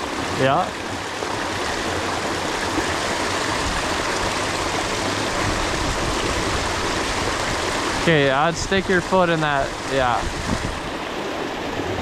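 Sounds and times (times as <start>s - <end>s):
creek water rushing over dam: 0.0s - 12.0s.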